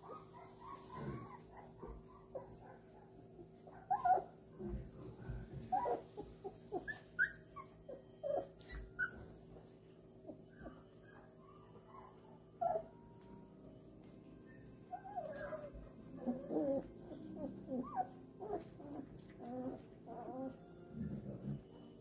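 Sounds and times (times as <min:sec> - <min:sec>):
puppies whimpering and yipping: 0:00.0 - 0:13.3, 0:14.0 - 0:22.0.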